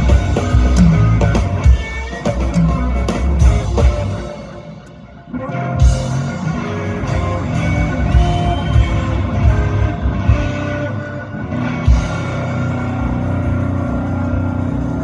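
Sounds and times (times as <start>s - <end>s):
electric blues band playing: 0.0s - 15.0s.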